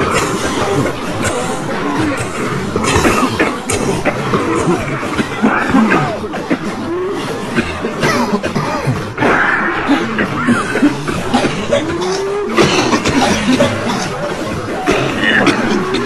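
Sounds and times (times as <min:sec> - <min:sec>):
many people coughing: 0:00.0 - 0:16.0.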